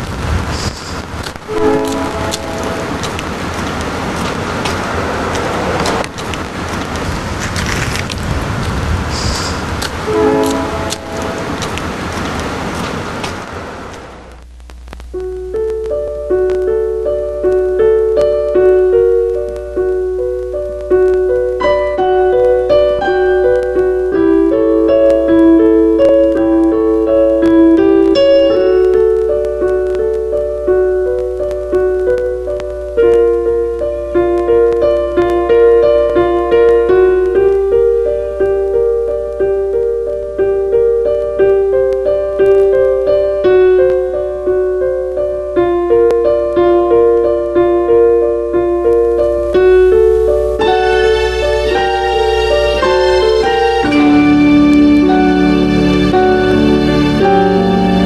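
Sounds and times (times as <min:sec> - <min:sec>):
piano music: 0:01.3 - 0:07.2, 0:09.8 - 0:14.4, 0:15.1 - 0:58.0.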